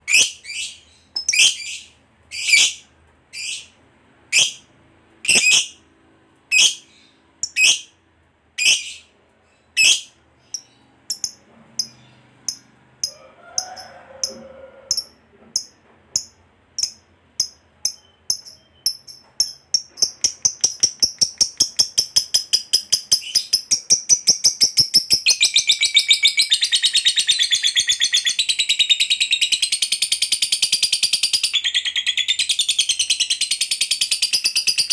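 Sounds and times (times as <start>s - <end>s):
lovebird calling and trilling: 0.1s - 5.8s, 6.5s - 8.0s, 8.6s - 13.2s, 13.8s - 34.9s.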